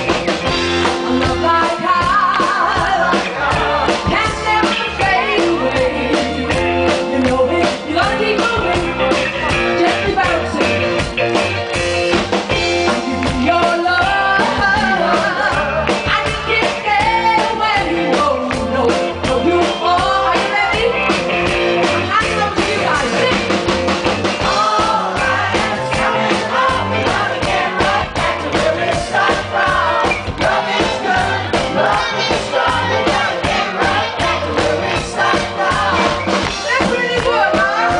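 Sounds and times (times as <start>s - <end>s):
drum kit: 0.0s - 37.9s
electric guitar: 0.0s - 37.9s
woman singing: 1.0s - 10.9s, 12.9s - 21.2s, 21.8s - 23.6s, 24.4s - 37.9s.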